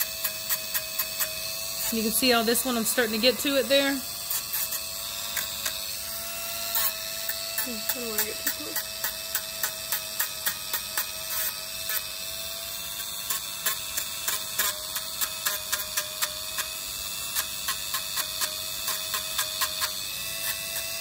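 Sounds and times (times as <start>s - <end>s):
rotary tool whining: 0.0s - 21.0s.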